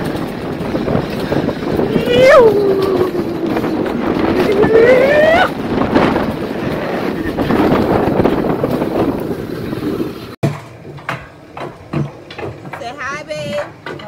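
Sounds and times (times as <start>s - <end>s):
sled wheels rumbling on rails: 0.0s - 14.0s
wind buffeting microphone: 0.0s - 14.0s.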